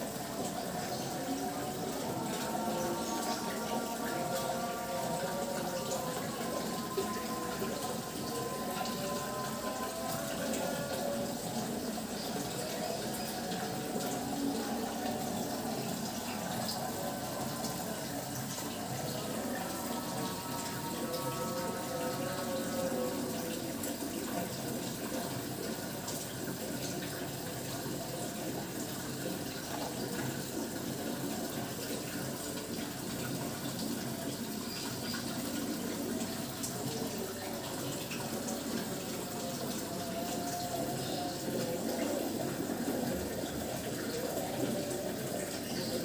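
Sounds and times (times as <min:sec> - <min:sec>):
aquarium filter running water: 0:00.0 - 0:46.0.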